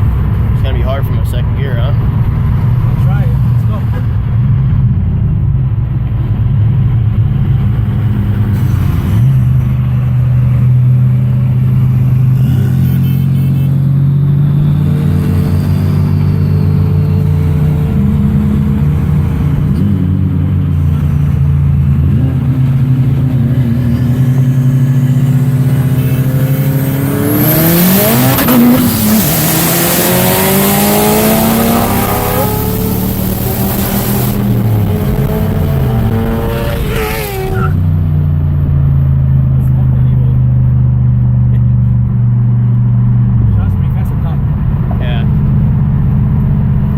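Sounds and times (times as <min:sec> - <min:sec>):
turbocharged car engine revving: 0:06.2 - 0:46.9.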